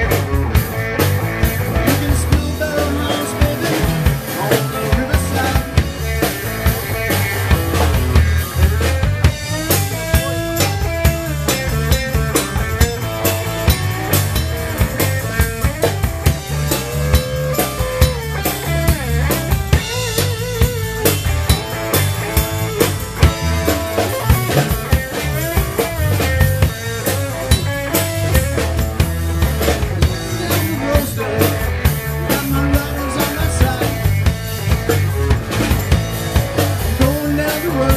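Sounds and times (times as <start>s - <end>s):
drum kit beat: 0.0s - 37.9s
electric guitar: 0.0s - 37.9s.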